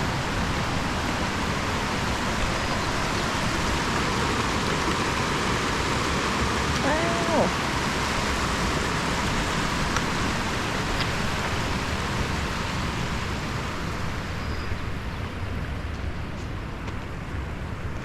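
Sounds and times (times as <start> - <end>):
waterfall rushing water: 0.0 - 15.8.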